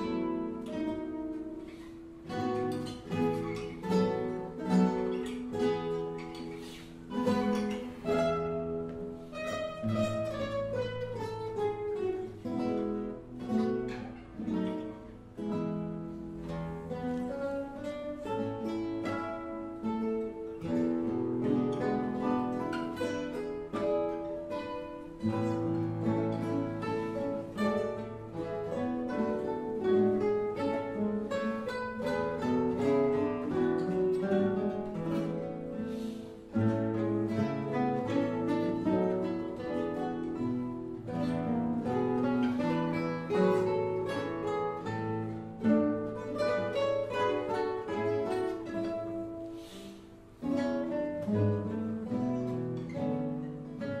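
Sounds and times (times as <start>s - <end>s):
classical guitar ensemble playing: 0.0s - 54.0s.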